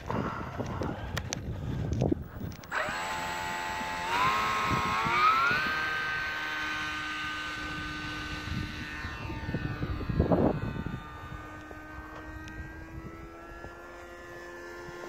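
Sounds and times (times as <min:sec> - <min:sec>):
model airplane motor whining: 0:00.0 - 0:15.0.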